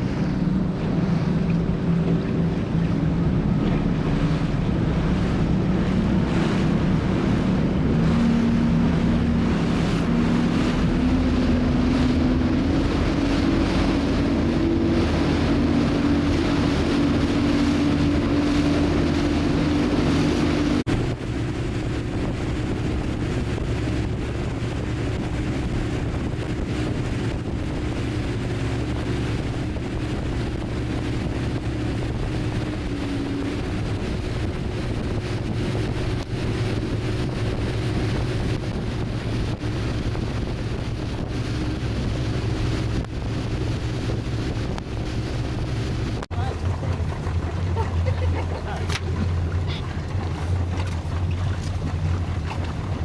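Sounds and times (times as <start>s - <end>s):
speedboat engine running: 0.0s - 53.0s
water rushing past hull: 0.0s - 53.0s
wind buffeting microphone: 0.0s - 53.0s.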